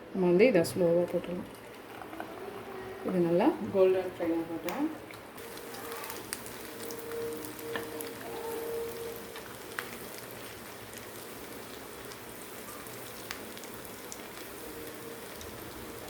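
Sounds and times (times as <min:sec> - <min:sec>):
deep-frying sizzle with pops: 0:00.6 - 0:16.0.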